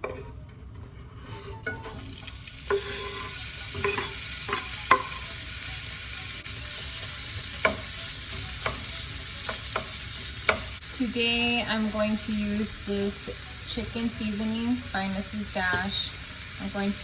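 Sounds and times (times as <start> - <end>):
chicken sizzling in frying pan: 1.9 - 17.0.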